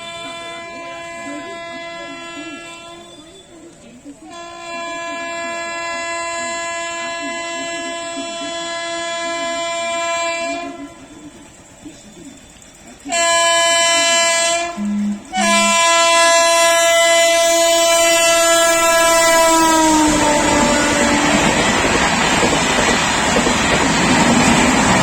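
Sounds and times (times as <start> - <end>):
train air horn blasts: 0.0 - 11.4, 13.0 - 23.8
rush of passing train: 0.0 - 25.0.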